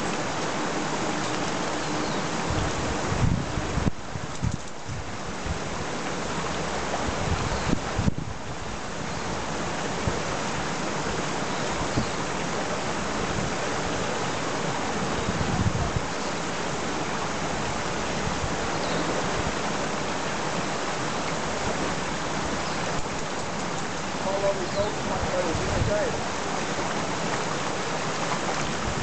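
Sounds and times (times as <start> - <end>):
river rushing over stones: 0.0 - 29.0
wind on microphone: 0.0 - 29.0.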